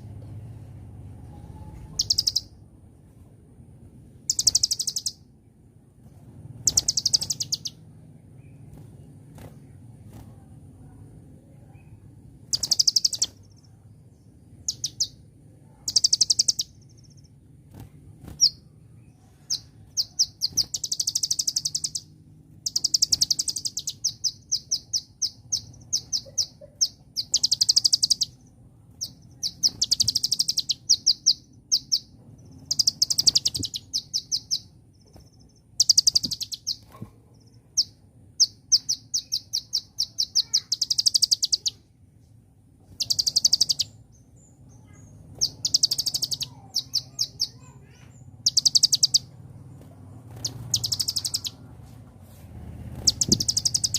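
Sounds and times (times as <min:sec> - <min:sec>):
bird chirping trills: 0:01.0 - 0:02.6, 0:04.1 - 0:09.9, 0:10.8 - 0:51.7, 0:52.8 - 0:53.9.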